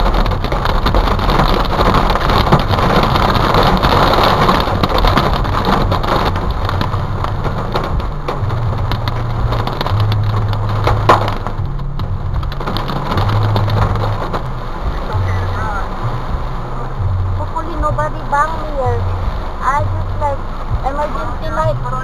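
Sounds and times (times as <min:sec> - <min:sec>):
rain and hail on car roof: 0:00.0 - 0:22.0.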